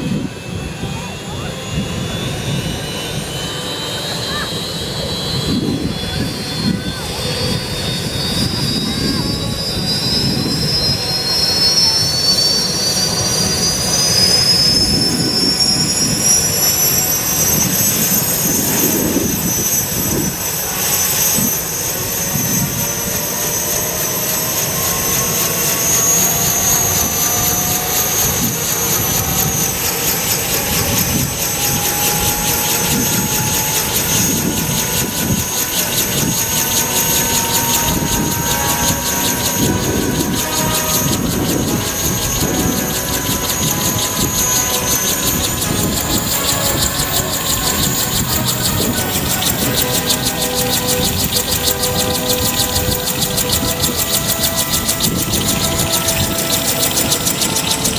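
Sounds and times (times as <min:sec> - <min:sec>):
helicopter turbine whining: 0:00.0 - 0:57.9
rotor throbbing: 0:00.0 - 0:57.9.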